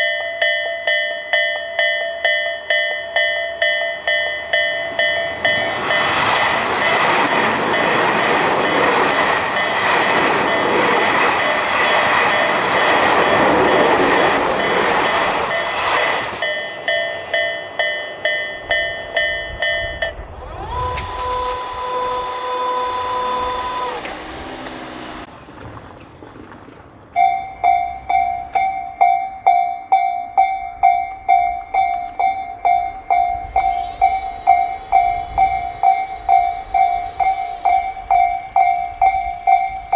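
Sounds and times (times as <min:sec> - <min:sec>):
higher faster crossing bell: 0:00.0 - 0:25.3, 0:27.1 - 0:39.9
level crossing bells clanging: 0:00.0 - 0:25.3, 0:27.2 - 0:39.9
passing train rush: 0:00.0 - 0:39.9.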